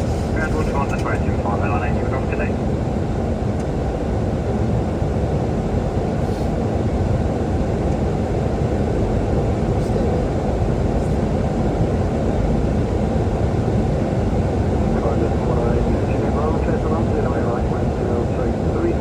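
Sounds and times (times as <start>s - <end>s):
airflow and engines in cockpit: 0.0s - 19.0s.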